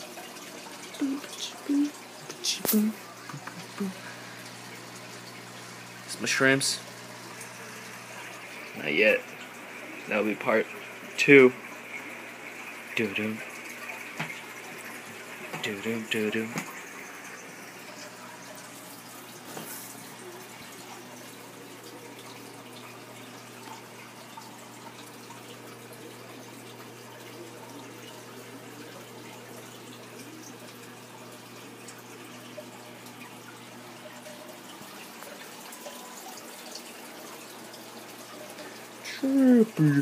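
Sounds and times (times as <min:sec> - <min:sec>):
faint drips: 0:00.0 - 0:40.0
running water in aquarium: 0:00.0 - 0:40.0.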